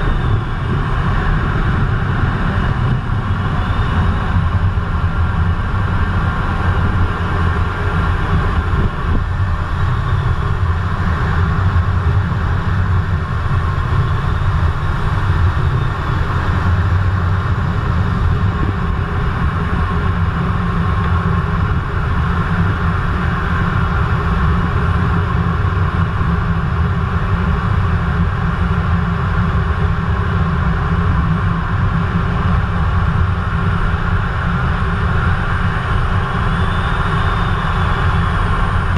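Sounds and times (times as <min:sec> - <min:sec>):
jet engine rumble in cockpit: 0:00.0 - 0:38.9.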